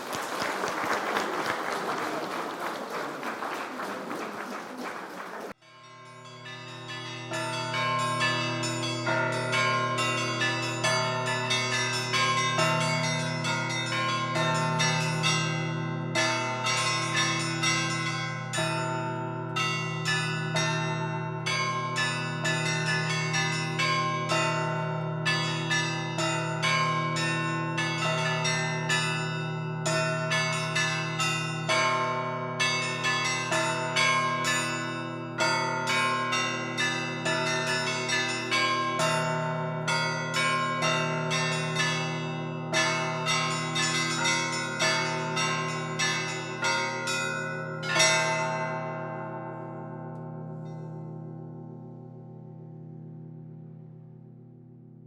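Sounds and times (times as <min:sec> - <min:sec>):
small church bells striking: 0:05.5 - 0:53.4
large bells humming: 0:05.6 - 0:51.3.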